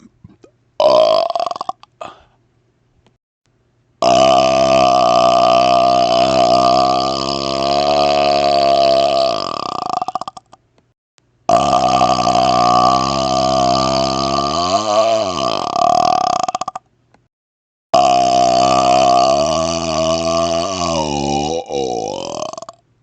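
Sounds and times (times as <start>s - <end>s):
man burping: 0.0s - 2.2s, 4.0s - 10.6s, 11.5s - 16.8s, 18.0s - 22.8s.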